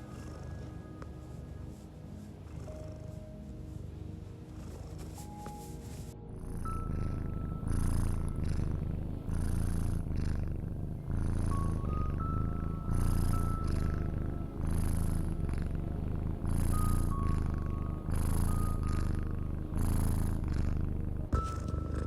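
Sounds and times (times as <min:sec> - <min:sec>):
cat purring: 0:00.0 - 0:22.0
soft background music: 0:00.0 - 0:22.0.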